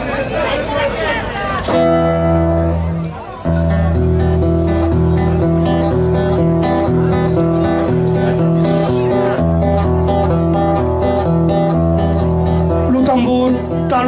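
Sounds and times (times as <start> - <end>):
acoustic guitar strumming: 1.6 - 14.0.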